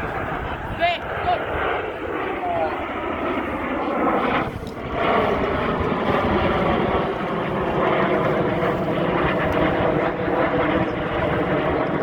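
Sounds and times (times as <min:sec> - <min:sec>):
jet engines flying past: 0:00.0 - 0:12.0.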